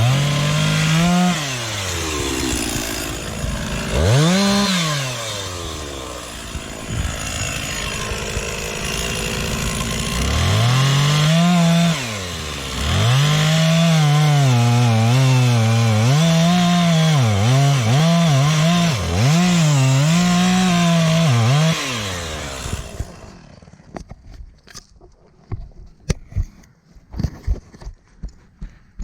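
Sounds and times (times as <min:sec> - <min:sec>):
chainsaw cutting wood: 0:00.0 - 0:24.8.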